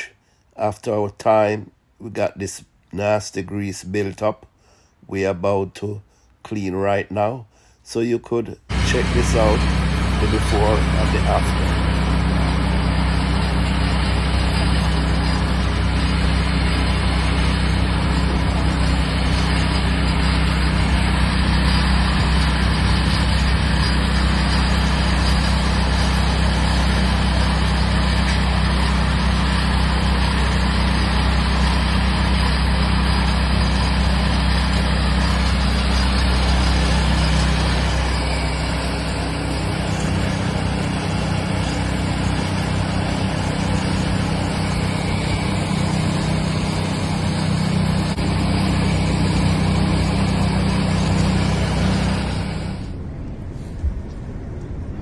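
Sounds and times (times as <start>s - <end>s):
pressure washer engine running: 8.7s - 53.0s.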